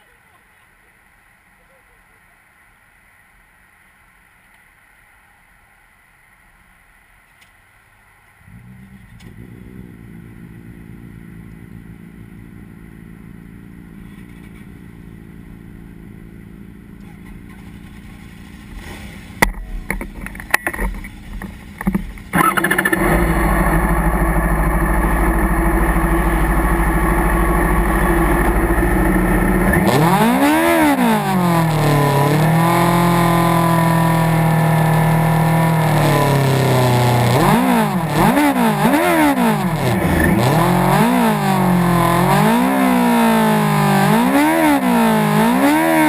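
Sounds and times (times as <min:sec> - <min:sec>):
vehicle engine idling: 0:08.4 - 0:46.0.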